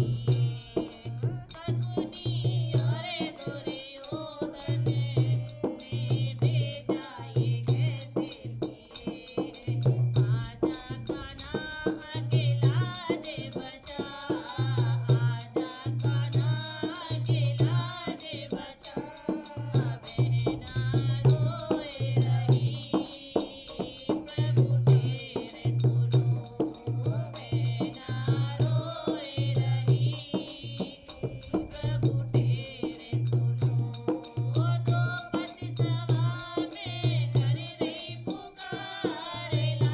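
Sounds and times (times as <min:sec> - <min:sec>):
jingling rattle percussion: 0:00.0 - 0:39.9
steady low drum beat: 0:00.0 - 0:39.9.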